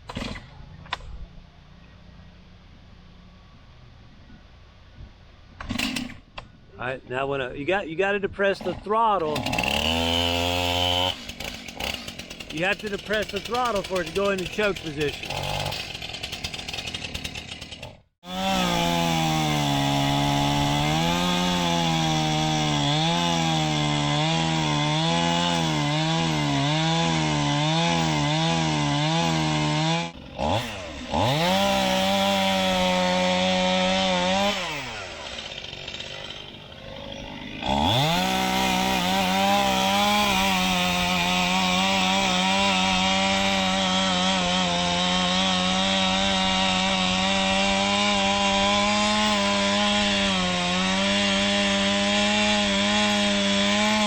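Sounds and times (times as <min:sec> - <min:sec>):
chainsaw cutting wood: 0:00.0 - 0:01.0, 0:05.6 - 0:06.3, 0:08.6 - 0:54.0.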